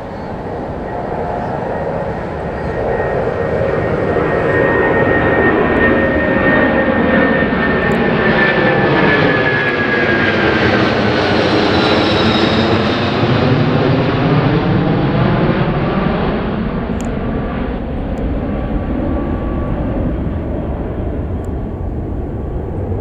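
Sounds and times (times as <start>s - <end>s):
jet engine roar with whine: 0.0s - 23.0s.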